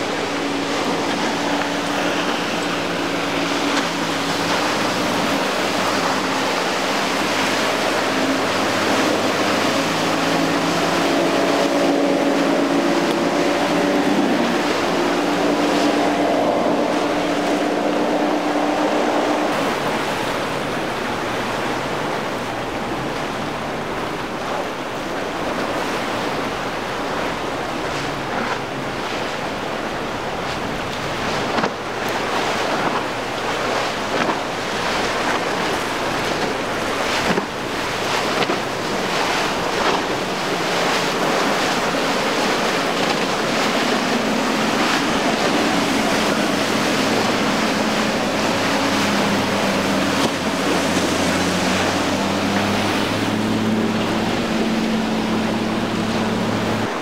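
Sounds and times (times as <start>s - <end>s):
churning waves: 0.0s - 57.0s
outboard engines droning: 0.0s - 57.0s
water splashes: 0.0s - 57.0s
wind buffeting microphone: 0.0s - 57.0s.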